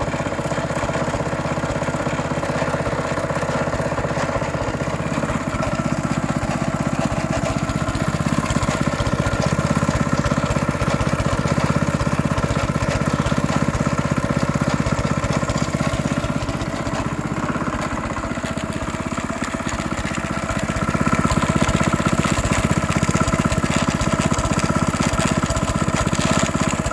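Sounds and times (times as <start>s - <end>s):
rattling grinding inside engine: 0.0s - 26.9s
small engine running: 0.0s - 26.9s.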